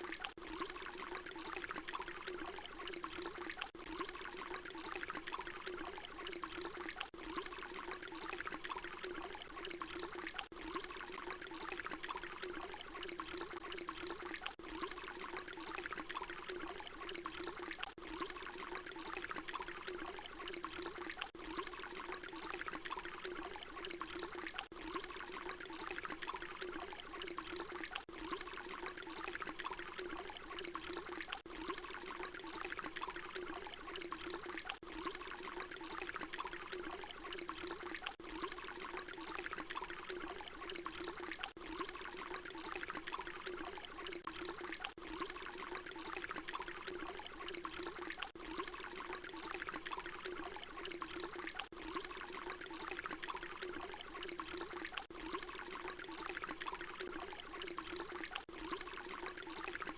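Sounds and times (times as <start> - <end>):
water pouring: 0.0 - 59.9.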